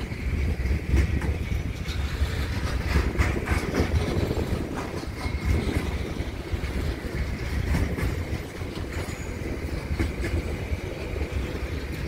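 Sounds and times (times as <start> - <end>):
freight train rumbling past: 0.0 - 12.0
wheels clicking on rails: 0.0 - 12.0.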